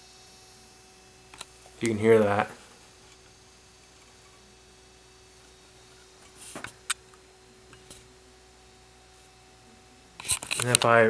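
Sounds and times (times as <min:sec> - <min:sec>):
small motor faint whine: 0:00.0 - 0:11.0.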